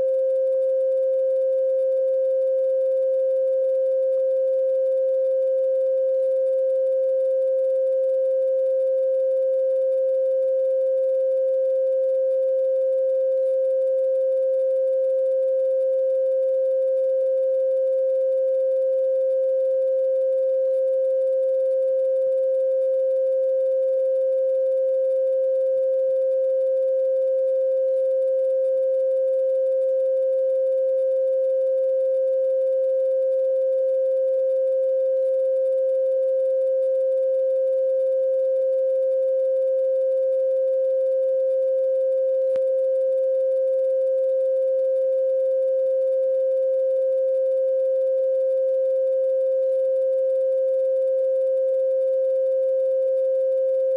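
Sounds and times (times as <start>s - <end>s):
electronic pure tone: 0.0s - 53.9s.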